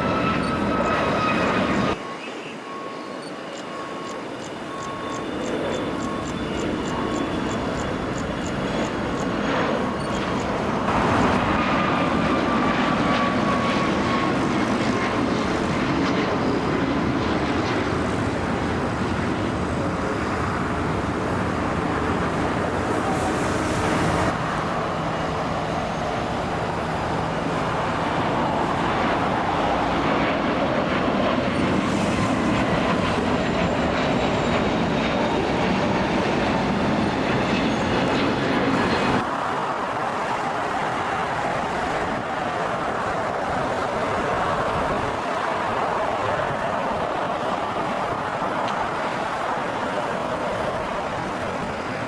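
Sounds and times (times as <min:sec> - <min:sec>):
jet engines rushing: 0:00.0 - 0:52.0.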